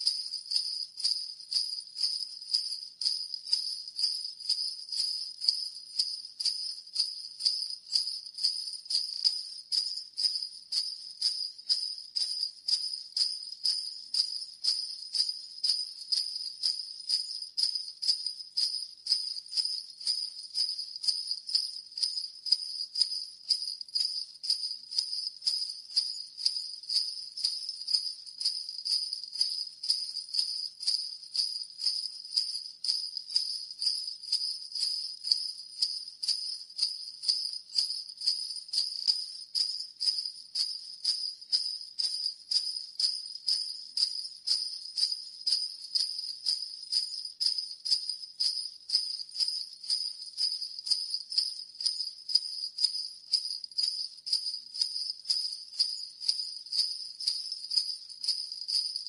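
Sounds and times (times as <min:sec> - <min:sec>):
sleigh bells jingling: 0:00.0 - 0:59.0.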